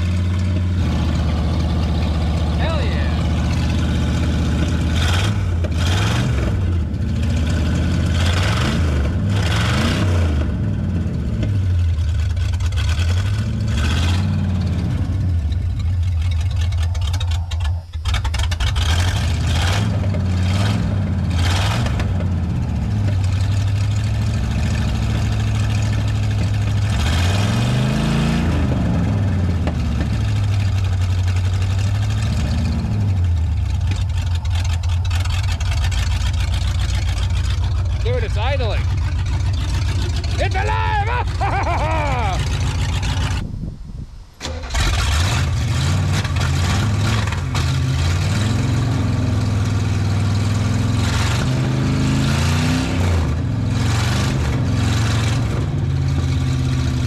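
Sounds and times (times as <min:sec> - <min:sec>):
van engine revving: 0:00.0 - 0:57.0.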